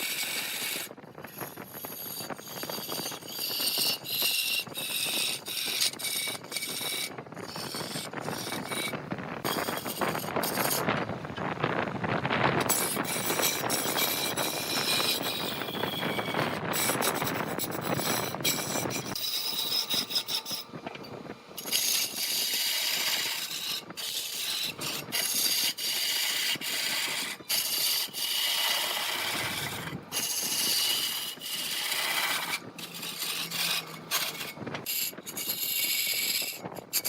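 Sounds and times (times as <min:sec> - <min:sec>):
lathe tool cutting wood: 0:00.0 - 0:10.8, 0:12.6 - 0:37.0.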